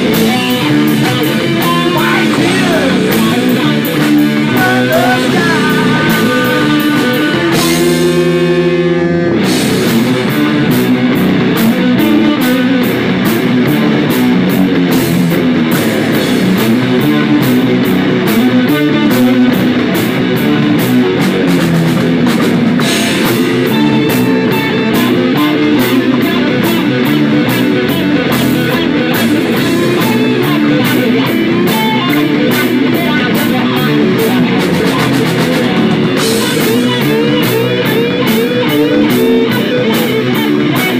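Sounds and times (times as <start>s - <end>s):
heavy rock band playing: 0.0s - 40.9s.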